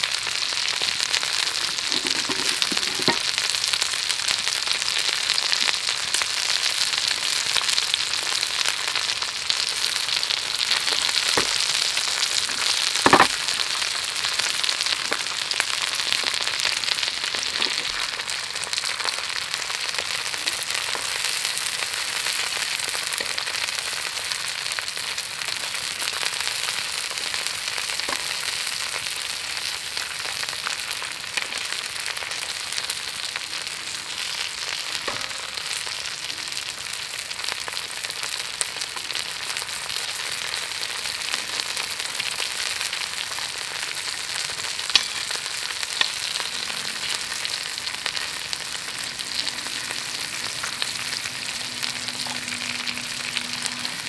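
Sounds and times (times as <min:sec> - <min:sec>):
food frying in hot oil: 0:00.0 - 0:54.0.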